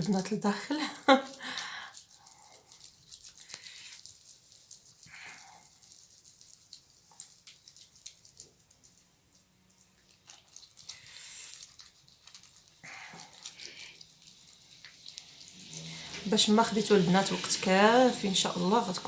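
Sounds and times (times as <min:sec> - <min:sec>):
hands scrubbing wet squishing: 0:00.0 - 0:19.0.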